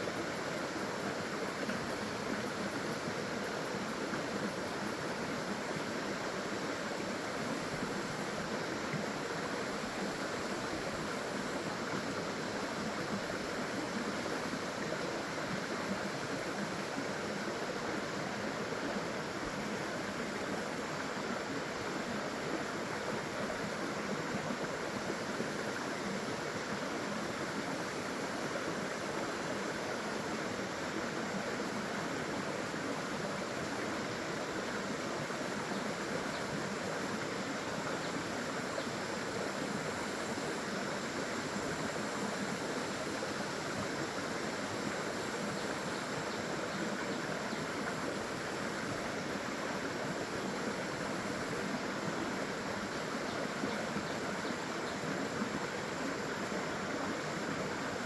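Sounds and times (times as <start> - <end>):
small waterfall rushing: 0.0 - 58.0.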